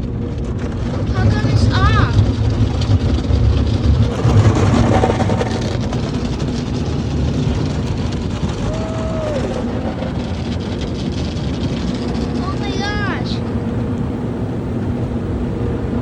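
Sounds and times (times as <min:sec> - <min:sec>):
car wash water spray and machinery: 0:00.0 - 0:16.0.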